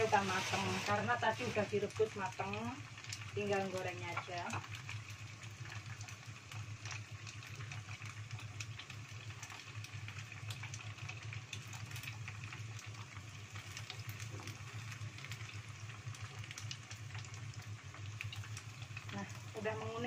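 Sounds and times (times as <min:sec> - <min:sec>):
deep-frying sizzle with pops: 0:00.0 - 0:20.0
low steady hum: 0:00.0 - 0:20.0.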